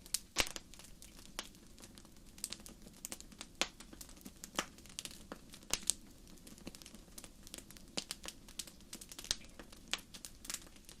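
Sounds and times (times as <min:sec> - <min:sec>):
faint hiss: 0:00.0 - 0:11.0
wood fire crackling: 0:00.0 - 0:11.0.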